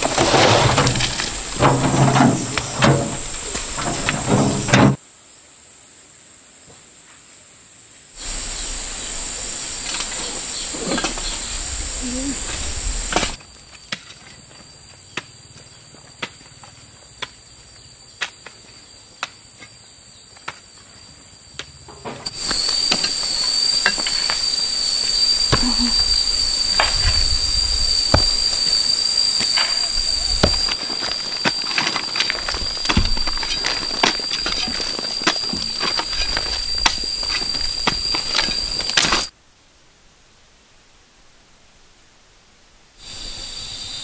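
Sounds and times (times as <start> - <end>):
insects chirring: 0.0 - 5.0, 8.2 - 39.4, 43.0 - 44.0.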